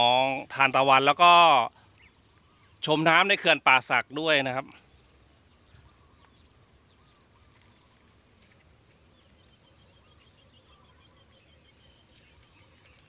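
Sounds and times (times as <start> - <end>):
distant bird chirps: 0.0 - 13.0.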